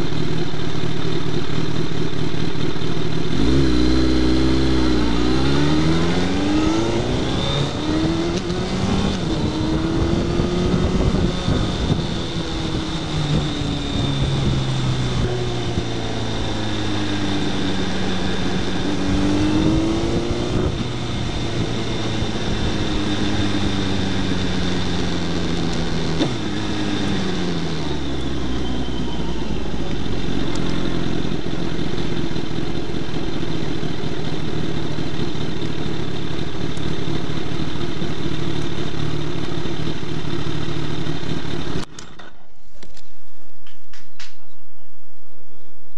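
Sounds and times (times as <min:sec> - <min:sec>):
motorcycle engine accelerating: 0:00.0 - 0:44.3
wind and road noise: 0:00.0 - 0:45.9.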